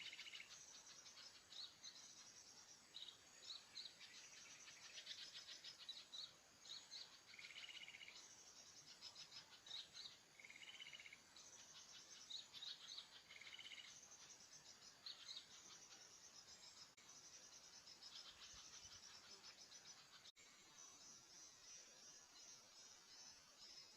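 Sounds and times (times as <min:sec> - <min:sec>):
insect chorus: 0:00.0 - 0:23.9
small birds chirping: 0:00.0 - 0:23.9.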